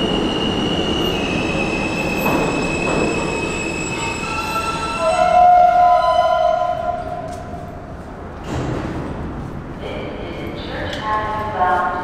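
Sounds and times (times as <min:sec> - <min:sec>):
subway train braking: 0:00.0 - 0:12.0.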